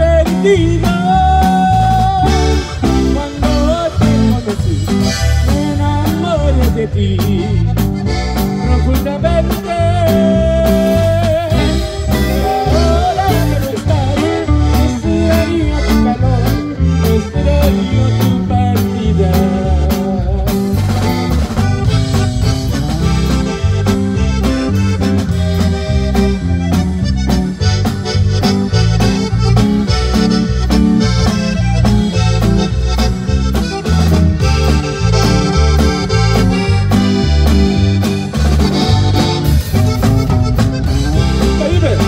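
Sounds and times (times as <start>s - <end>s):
bouncing bass line: 0.0s - 42.0s
button accordion melody: 0.0s - 42.0s
steady drum beat: 0.0s - 42.0s.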